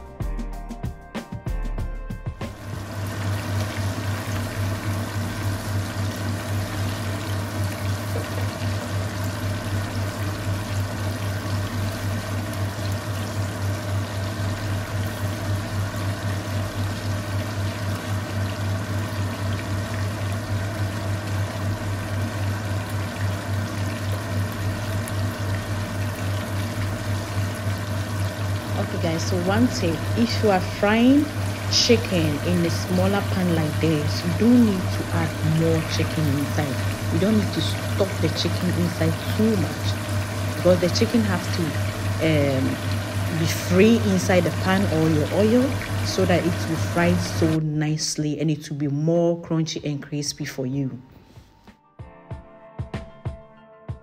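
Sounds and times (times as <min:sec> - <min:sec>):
chicken deep-frying in oil: 0:02.5 - 0:47.7
steady low hum: 0:02.5 - 0:47.9.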